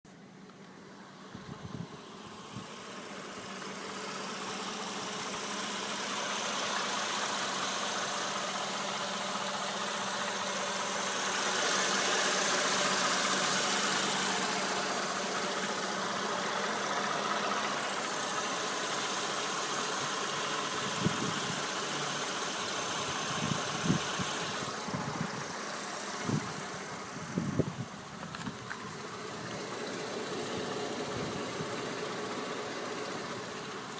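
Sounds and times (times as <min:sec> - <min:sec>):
car engine idling with knock: 0:00.1 - 0:33.9.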